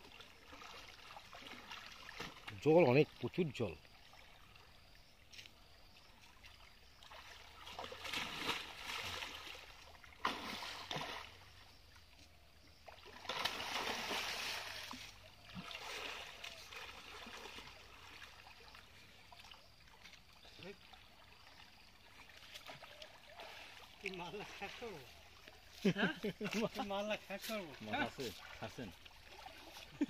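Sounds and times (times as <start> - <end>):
water splashing and sloshing: 0.0 - 30.0.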